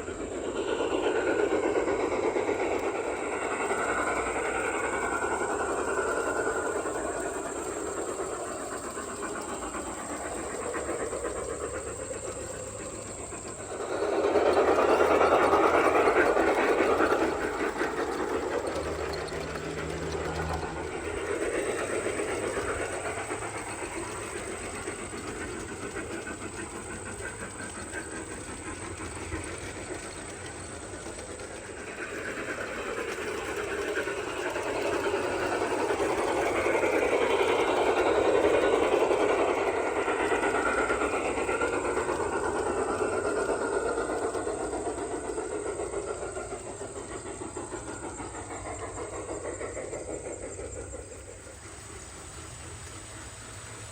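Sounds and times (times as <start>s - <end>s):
model train rumbling on track: 0.0s - 53.9s.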